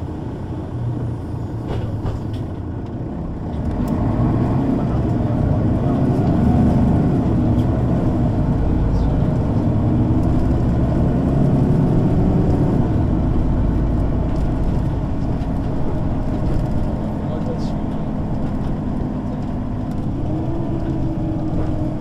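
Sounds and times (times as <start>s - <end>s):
bus engine running: 0.0s - 22.0s.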